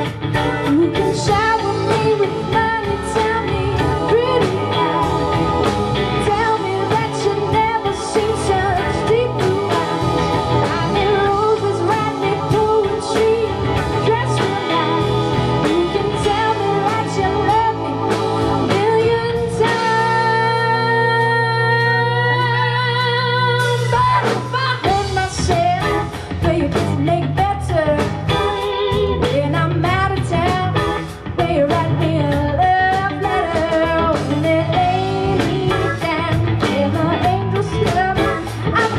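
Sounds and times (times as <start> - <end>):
acoustic and electric guitars: 0.0 - 38.9
drums: 0.0 - 38.9
woman singing: 0.0 - 38.9.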